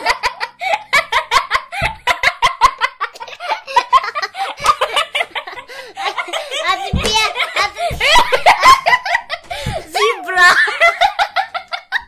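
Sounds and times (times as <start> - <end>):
children giggling: 0.0 - 12.0.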